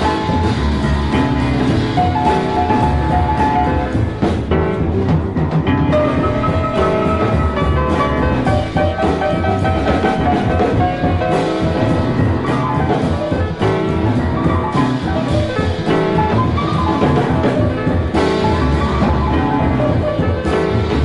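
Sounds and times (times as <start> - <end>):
jazz piano trio: 0.0 - 21.0.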